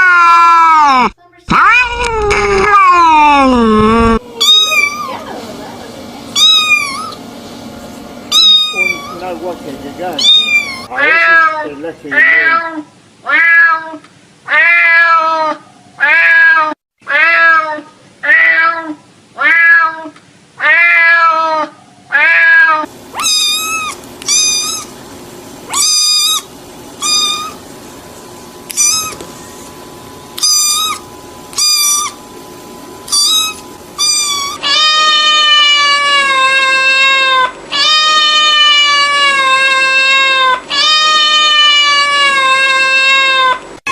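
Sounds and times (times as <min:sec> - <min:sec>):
cats meowing: 0:00.0 - 0:05.2, 0:06.4 - 0:07.3, 0:08.3 - 0:09.2, 0:10.1 - 0:24.9, 0:25.7 - 0:27.6, 0:28.7 - 0:29.2, 0:30.4 - 0:32.2, 0:33.1 - 0:43.6.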